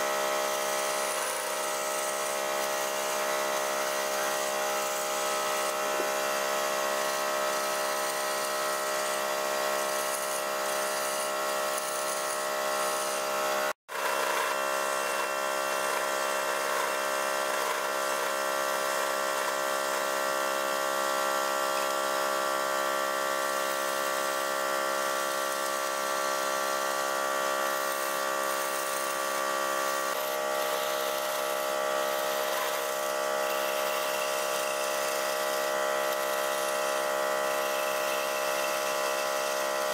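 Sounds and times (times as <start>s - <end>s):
scraper cutting spinning wood: 0.0s - 39.9s
wood lathe motor whine: 0.0s - 39.9s.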